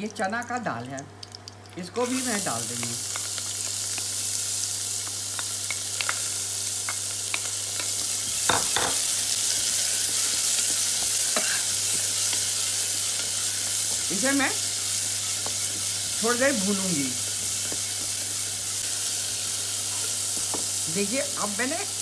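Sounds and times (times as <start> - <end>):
lentils sizzling in hot oil: 0.1 - 22.0.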